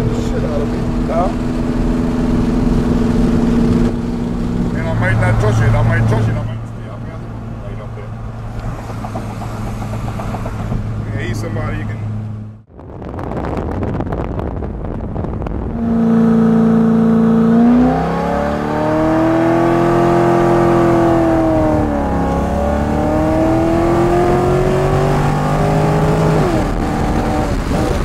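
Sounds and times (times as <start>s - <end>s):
car engine accelerating: 0.0s - 28.0s
wind and road rumble: 0.0s - 28.0s.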